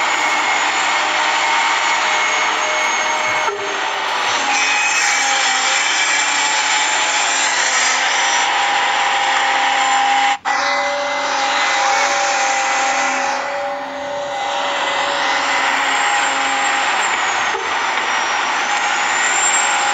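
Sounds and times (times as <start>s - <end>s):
small electric motors whining: 0.0s - 19.9s.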